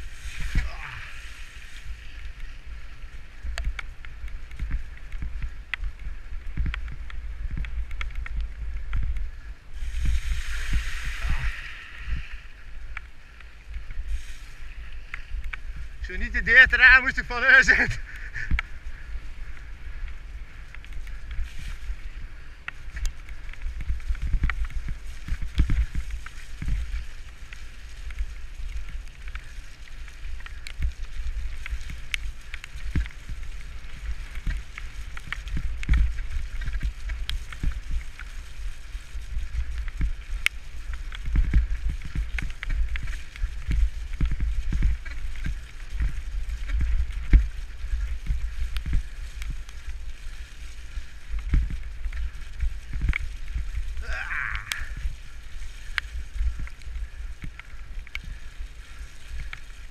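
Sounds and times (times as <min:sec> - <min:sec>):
bicycle tyre hiss: 0:00.0 - 0:59.9
wind buffeting microphone: 0:00.0 - 0:59.9.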